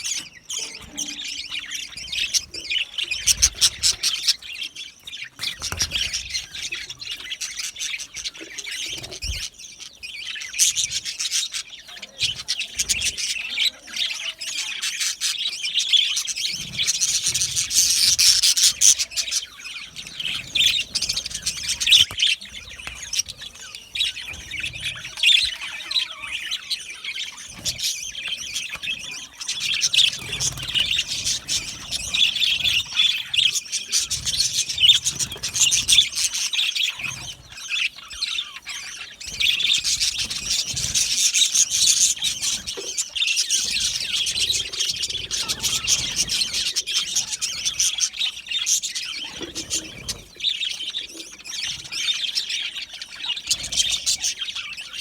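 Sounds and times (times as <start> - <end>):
budgerigars chirping and warbling: 0.0 - 55.0.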